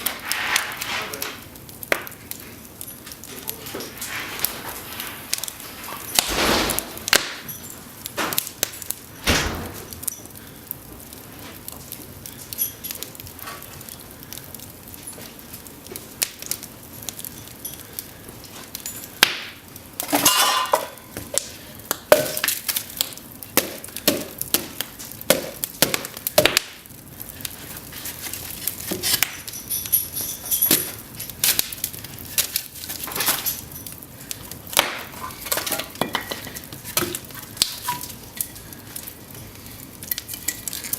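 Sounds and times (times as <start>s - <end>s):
fire crackling and popping: 0.0s - 40.9s
low steady hiss: 0.0s - 40.9s.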